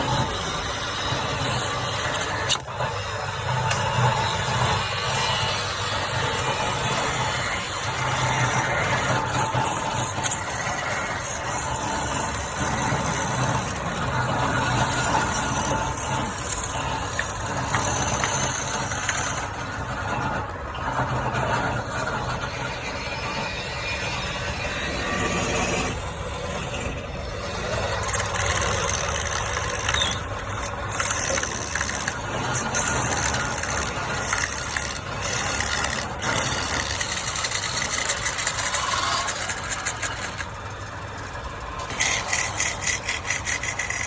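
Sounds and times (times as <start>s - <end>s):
wood lathe running: 0.0s - 44.0s.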